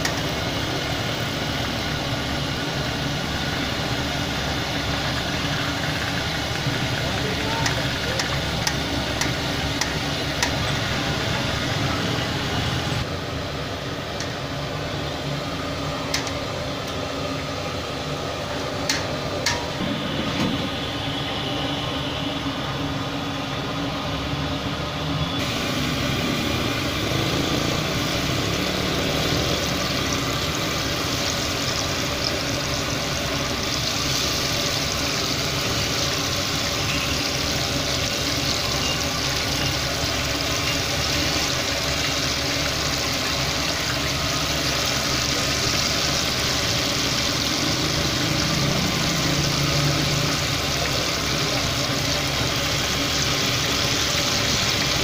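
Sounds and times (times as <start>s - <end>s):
machine hum: 0.0s - 55.0s
oil sizzling while deep-frying: 0.0s - 55.0s.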